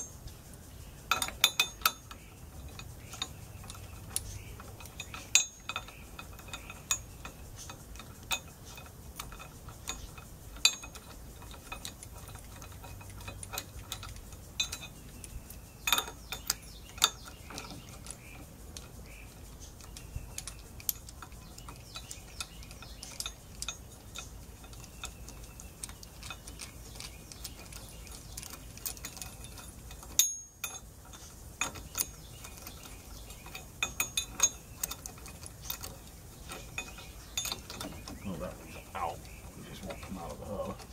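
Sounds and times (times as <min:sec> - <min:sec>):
metal tools clinking: 0:01.1 - 0:40.9.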